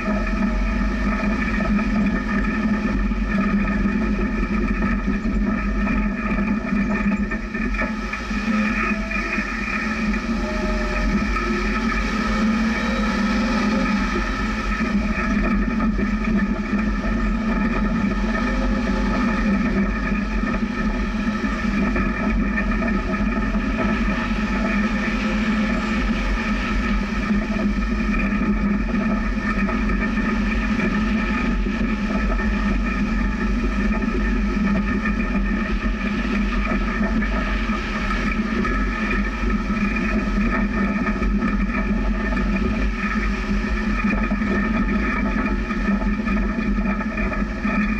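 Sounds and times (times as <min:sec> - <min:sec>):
engine drone: 0:00.0 - 0:47.9.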